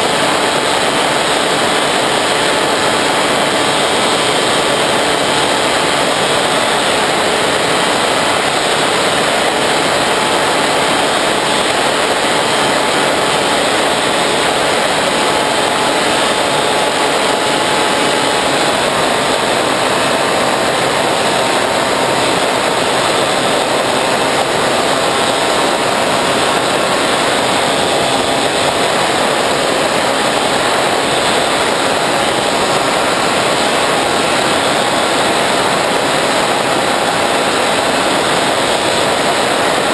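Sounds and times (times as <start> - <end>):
electric motor and propeller whirring: 0.0 - 39.9
wind rush over microphone: 0.0 - 39.9.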